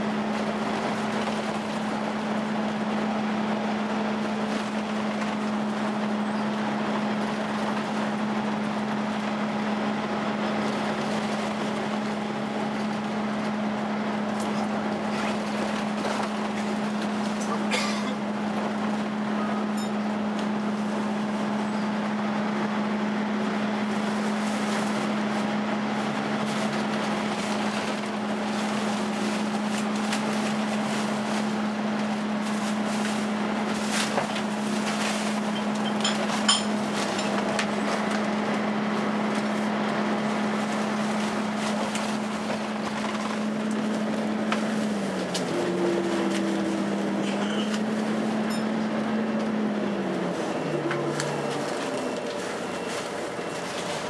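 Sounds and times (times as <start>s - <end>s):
bus engine and road noise: 0.0s - 54.0s
cooling fan hum: 0.0s - 54.0s.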